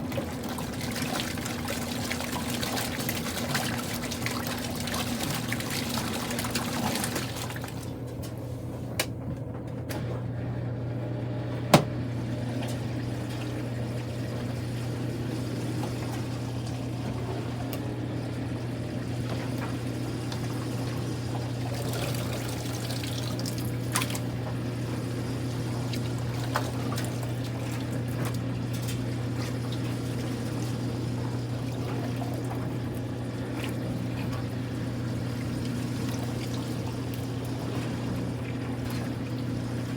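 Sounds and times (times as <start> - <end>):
water pouring and sloshing: 0.0 - 8.4, 12.2 - 39.9
motor hum: 0.0 - 39.9.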